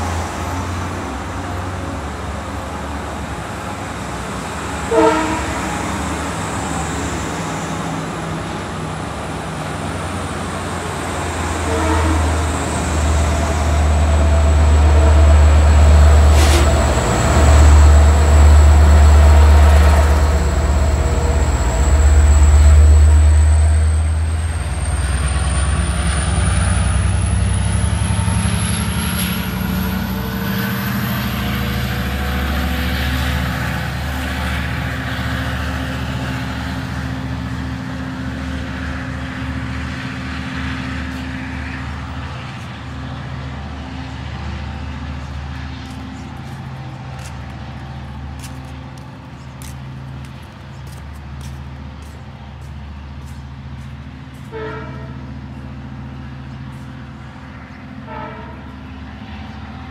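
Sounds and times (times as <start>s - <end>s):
diesel train engine rumble: 0.0s - 59.9s
rising train whine: 0.0s - 59.9s.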